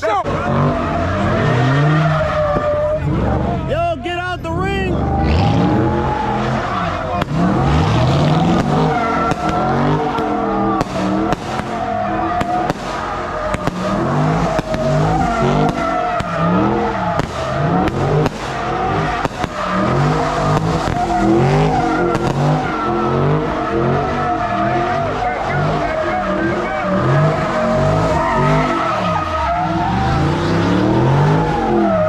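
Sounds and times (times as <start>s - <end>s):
tyres squealing: 0.0s - 4.1s, 4.8s - 32.0s
car engine revving: 0.0s - 32.0s
sharp exhaust pops: 6.0s - 32.0s.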